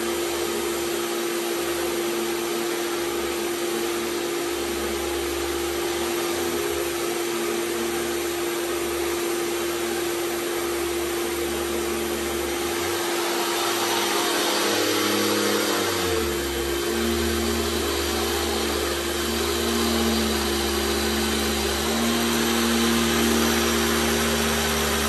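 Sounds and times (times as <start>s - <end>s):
vacuum cleaner running on carpet: 0.0s - 25.0s.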